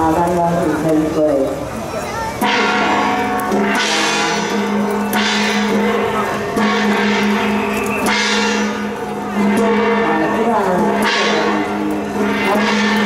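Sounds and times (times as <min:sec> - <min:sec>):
large gong ringing: 0:02.4 - 0:13.0.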